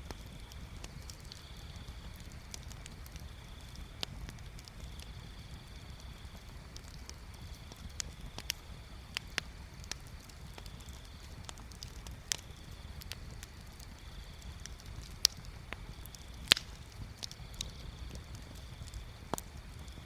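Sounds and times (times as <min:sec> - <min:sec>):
bonfire crackling: 0:00.0 - 0:20.0
burning wood popping: 0:00.0 - 0:20.0
low fire rumble: 0:00.0 - 0:20.0.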